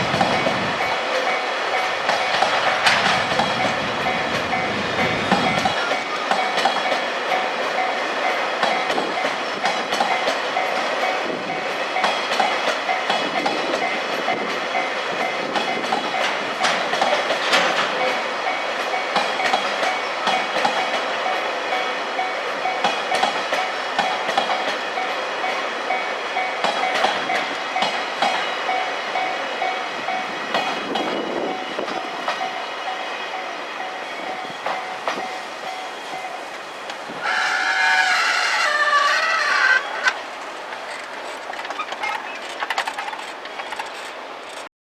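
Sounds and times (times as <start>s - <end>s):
train wheels clacking over rail joints: 0.0s - 32.6s, 36.9s - 44.7s
level-crossing warning bell: 0.0s - 37.8s.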